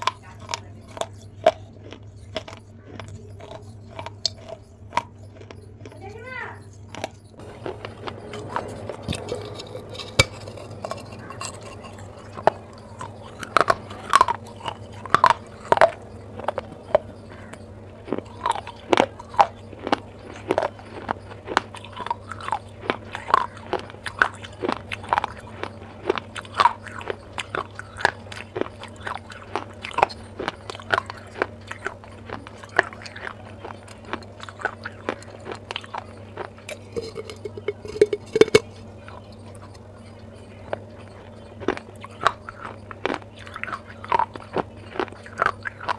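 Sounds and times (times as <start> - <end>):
chewing: 0.0 - 45.9
crunching clay: 0.0 - 45.9
faint low hum: 0.0 - 45.9.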